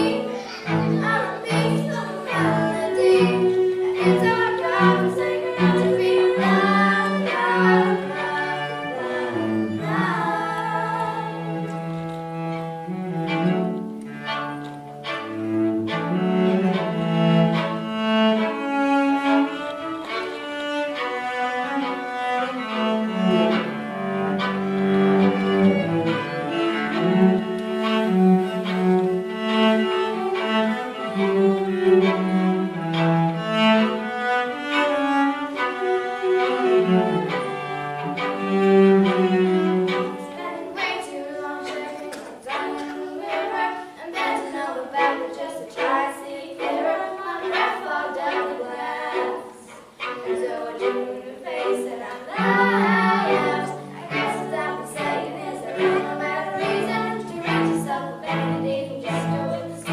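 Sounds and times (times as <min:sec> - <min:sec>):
string ensemble playing: 0:00.0 - 0:59.9.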